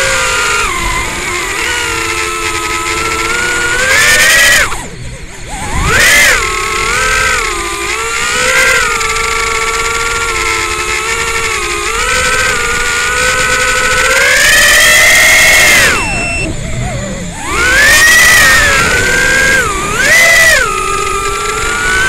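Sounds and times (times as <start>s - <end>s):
quadcopter motors and propellers whining: 0.0s - 22.0s.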